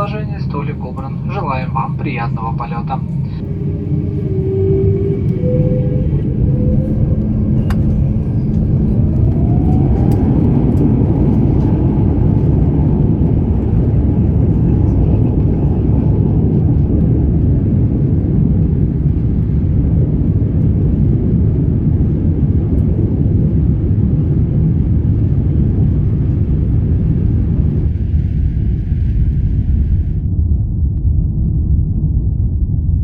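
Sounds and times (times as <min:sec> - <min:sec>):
aircraft engine rumble in cabin: 0:00.0 - 0:33.0.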